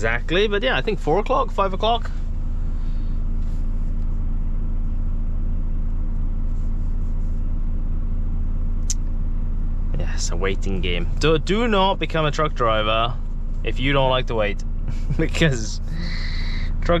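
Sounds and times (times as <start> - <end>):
truck diesel engine hum: 0.0 - 17.0.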